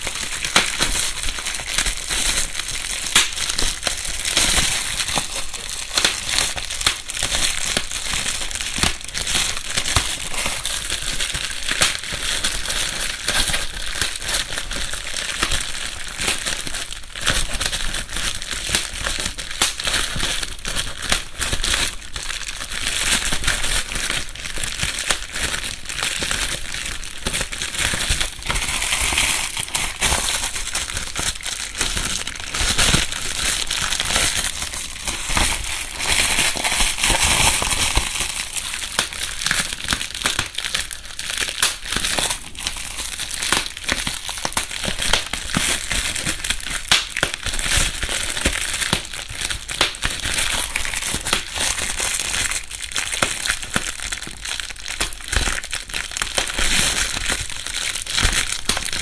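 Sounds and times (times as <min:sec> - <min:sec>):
bubble wrap crackling: 0:00.0 - 0:59.0
bubble wrap popping: 0:00.0 - 0:59.0.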